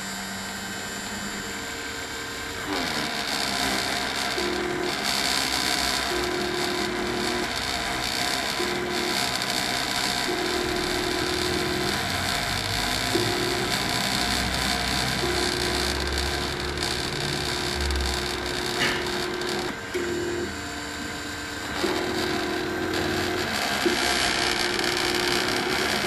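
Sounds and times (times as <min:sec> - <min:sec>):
stepper motor whine: 0:00.0 - 0:26.0.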